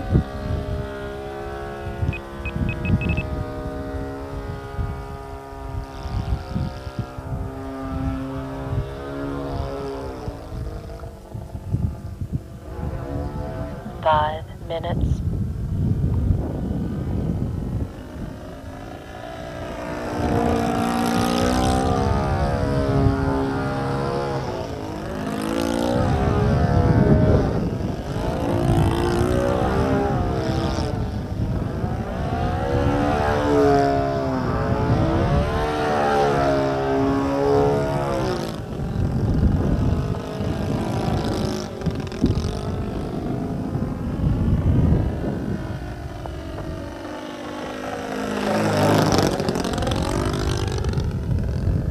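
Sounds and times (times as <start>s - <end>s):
model plane motor whine: 0.0s - 13.9s, 15.6s - 51.9s.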